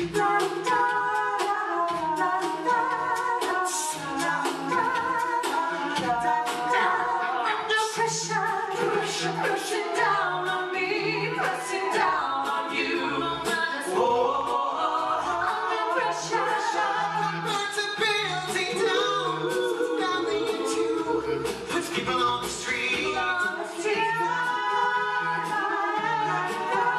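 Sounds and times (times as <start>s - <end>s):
a cappella group singing in harmony: 0.0s - 26.9s
vocal percussion: 0.0s - 26.9s.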